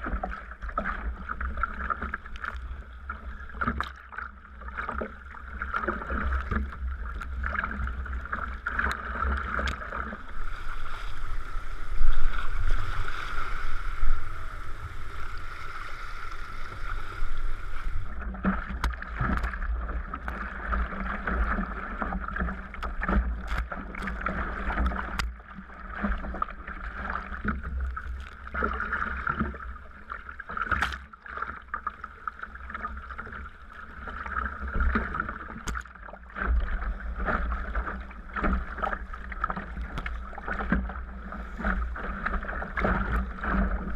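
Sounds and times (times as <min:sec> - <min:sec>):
paddle splashing: 0:00.0 - 0:43.9
water washing along hull: 0:00.0 - 0:43.9.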